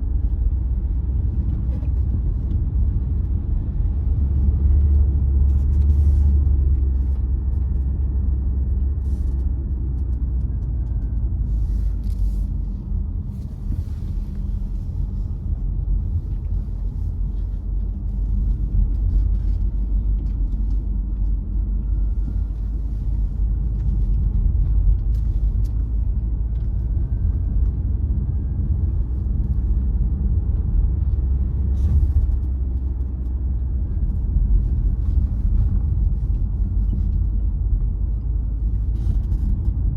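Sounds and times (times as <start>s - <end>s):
car tyres and engine rumble: 0.0s - 39.9s
faint whine: 0.0s - 39.9s.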